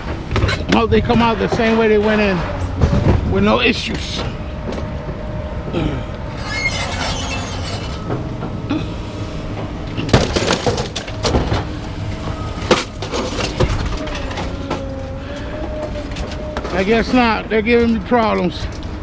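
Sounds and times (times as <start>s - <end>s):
metal clanks and knocks: 0.0s - 5.3s, 6.0s - 8.9s, 9.5s - 18.9s
low rumble: 0.0s - 19.0s.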